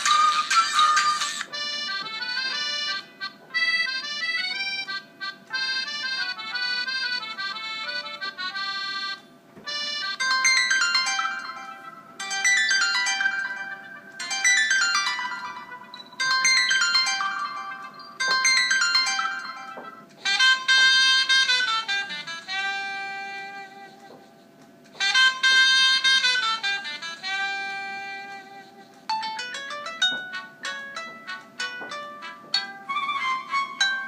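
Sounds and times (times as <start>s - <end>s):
ringtone falling notes: 0.0s - 23.7s, 25.0s - 34.0s
synthesized ringtone melody: 0.0s - 23.7s, 25.0s - 28.5s, 29.1s - 34.0s.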